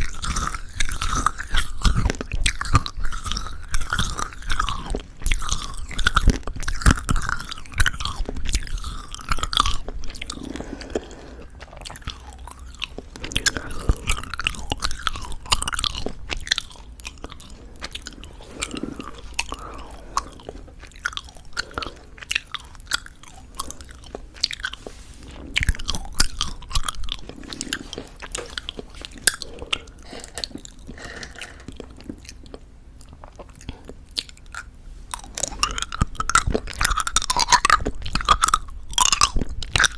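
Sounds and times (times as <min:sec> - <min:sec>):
wet sticky mouth sounds: 0:00.0 - 0:39.9.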